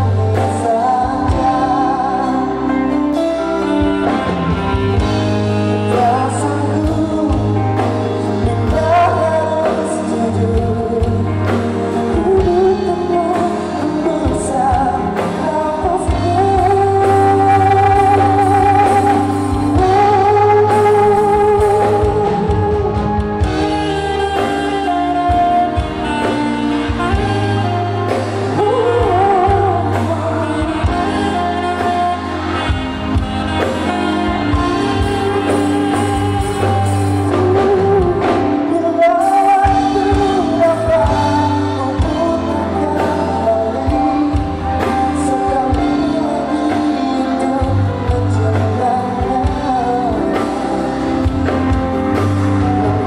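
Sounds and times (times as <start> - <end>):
amplified band playing: 0.0 - 53.0
man singing pop live: 0.0 - 53.0.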